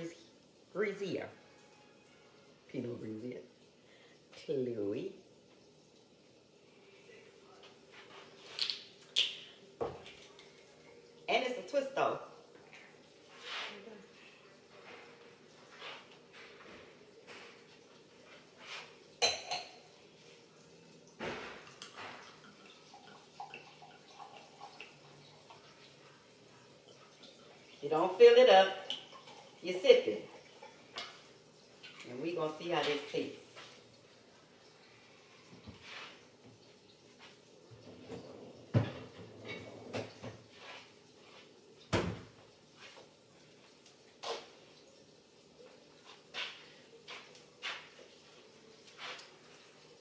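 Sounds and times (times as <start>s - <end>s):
wine pouring with glugs and drips: 0.0s - 50.0s.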